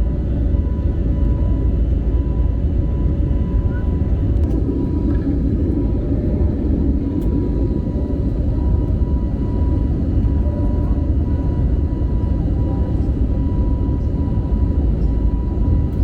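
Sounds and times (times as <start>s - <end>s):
airplane cabin engine noise: 0.0s - 16.0s.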